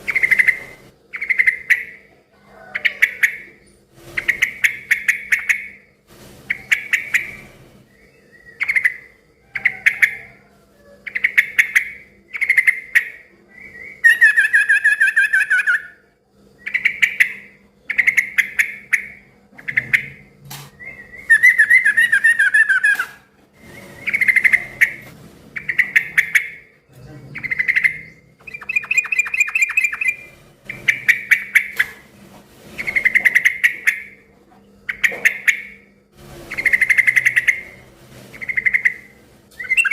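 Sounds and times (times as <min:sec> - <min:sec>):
bulbul chattering song: 0:00.0 - 0:02.2, 0:02.8 - 0:05.8, 0:06.5 - 0:10.4, 0:11.0 - 0:16.0, 0:16.6 - 0:32.0, 0:32.8 - 0:39.9.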